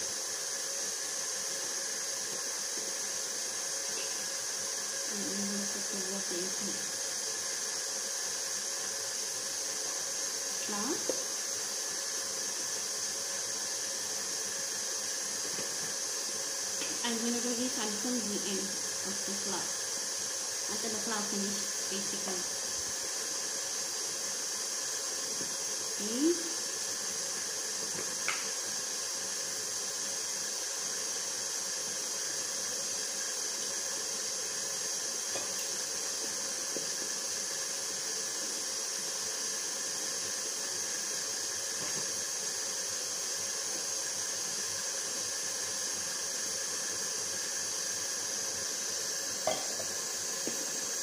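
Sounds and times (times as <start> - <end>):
stand mixer whirring: 0.0 - 51.0.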